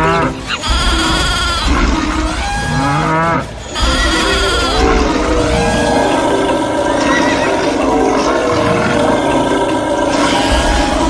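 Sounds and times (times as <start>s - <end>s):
farm animals bleating and mooing: 0.0s - 11.0s
low rumble: 0.6s - 11.0s.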